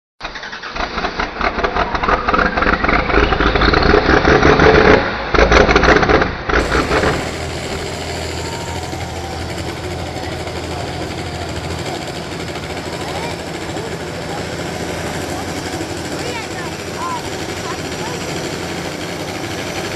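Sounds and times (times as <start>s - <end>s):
tractor engine working hard: 0.2s - 19.9s.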